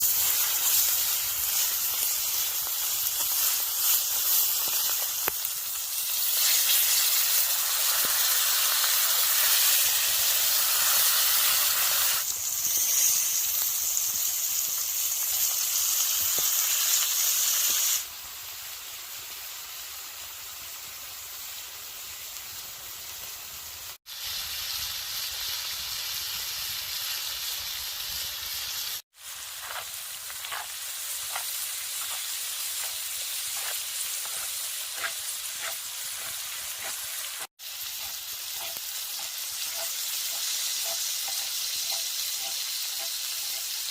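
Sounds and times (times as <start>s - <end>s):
fire crackling: 0.0s - 18.1s, 22.1s - 43.9s
food sizzling over fire: 0.0s - 43.9s.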